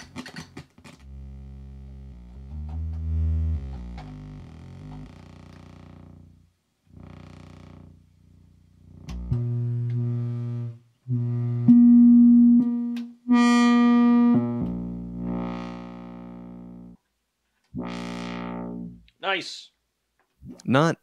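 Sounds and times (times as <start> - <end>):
buzzy synthesizer notes: 1.0 - 17.0, 17.8 - 19.1.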